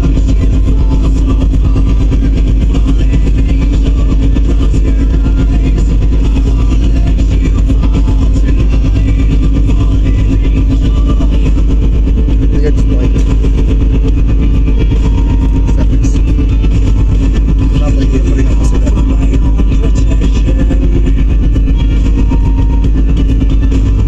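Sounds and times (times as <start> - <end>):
machine drone: 0.0 - 24.0.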